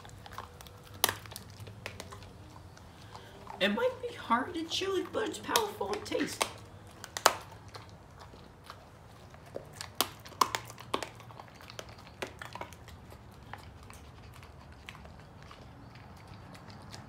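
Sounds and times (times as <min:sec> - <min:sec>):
dog crunching a treat: 0:00.0 - 0:17.0.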